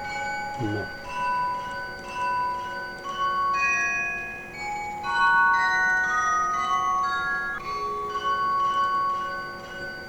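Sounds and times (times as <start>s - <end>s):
bell-like chiming melody: 0.0s - 10.0s.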